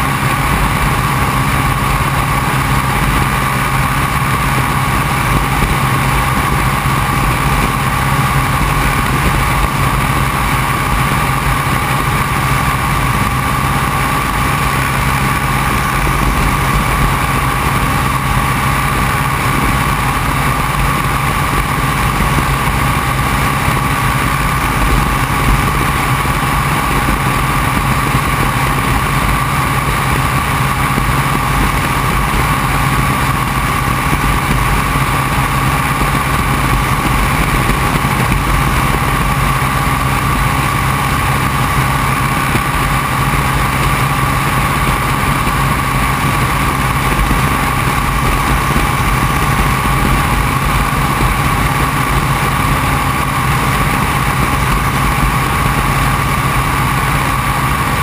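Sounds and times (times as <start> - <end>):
biplane engine droning: 0.0 - 58.0
rush of air: 0.0 - 58.0.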